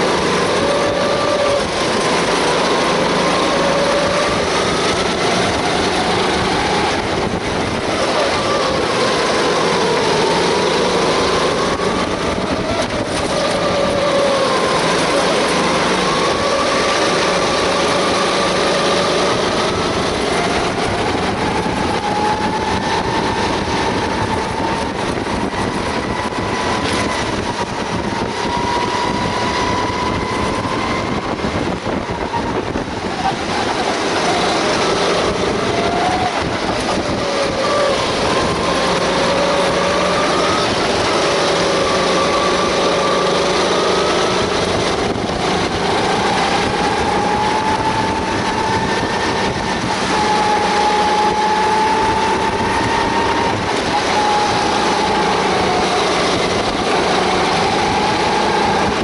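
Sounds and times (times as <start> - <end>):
kart engine racing: 0.0 - 59.0
wind rushing over microphone: 0.0 - 59.0.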